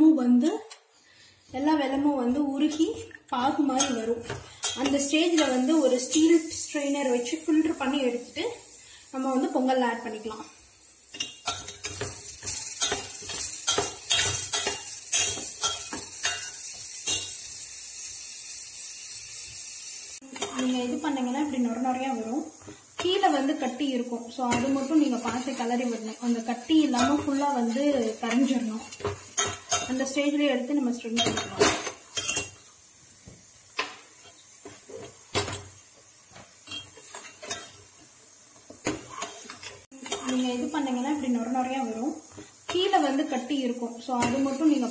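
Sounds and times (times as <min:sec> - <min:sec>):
steady high hiss: 0:02.9 - 0:44.9.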